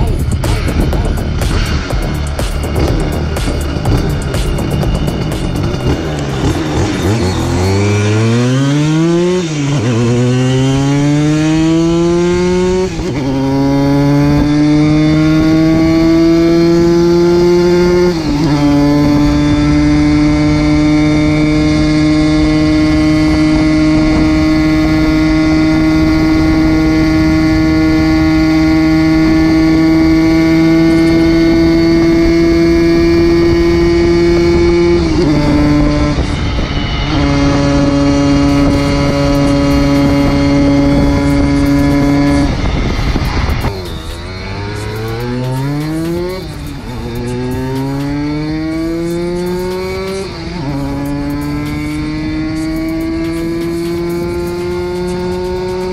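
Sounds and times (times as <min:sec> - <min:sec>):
two-stroke moped engine accelerating: 0:00.0 - 0:55.9.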